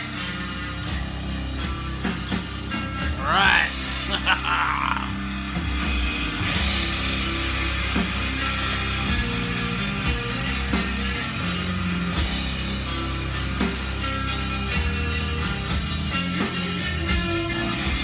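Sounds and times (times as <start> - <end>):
instrumental rock music: 0.0 - 18.0.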